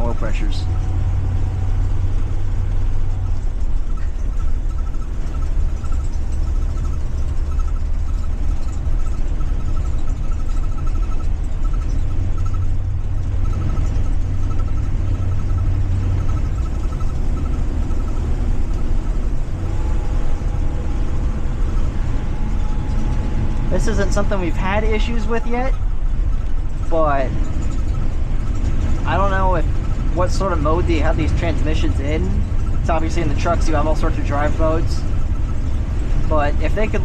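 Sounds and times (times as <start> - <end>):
bus engine rumbling: 0.0 - 37.0
high electronic beeps: 0.0 - 37.0.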